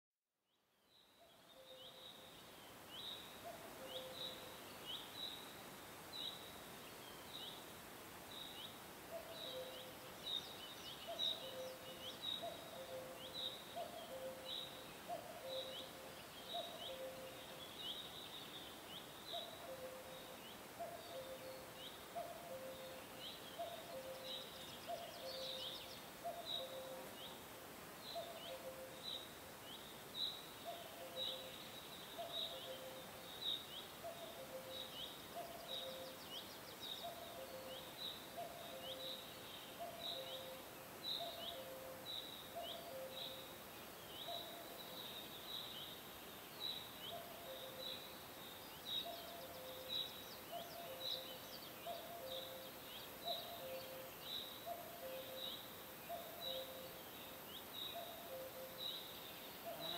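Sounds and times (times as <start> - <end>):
steady hiss: 1.8 - 59.9.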